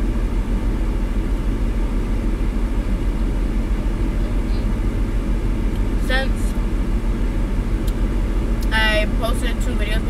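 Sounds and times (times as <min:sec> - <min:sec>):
car air conditioning blowing: 0:00.0 - 0:10.0
car engine idling: 0:00.0 - 0:10.0.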